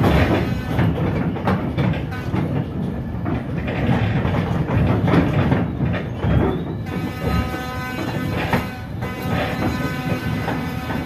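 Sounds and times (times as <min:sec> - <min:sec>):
rail bus running rumble: 0:00.0 - 0:11.0
wheels clattering over track: 0:00.0 - 0:11.0.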